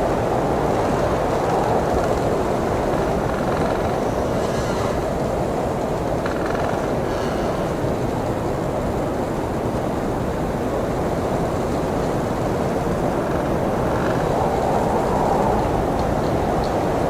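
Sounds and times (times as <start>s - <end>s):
blizzard wind rushing: 0.0s - 17.0s.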